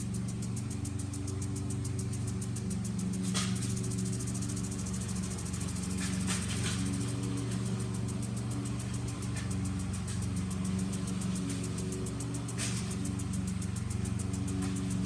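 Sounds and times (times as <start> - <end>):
lawn mower engine running: 0.0 - 15.0
lawn sprinkler ticking: 0.0 - 15.0
spray hiss: 0.0 - 15.0.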